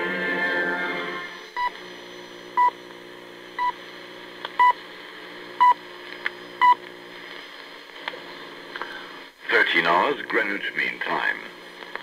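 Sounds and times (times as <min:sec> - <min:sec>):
shortwave radio hiss and hum: 0:00.0 - 0:12.0.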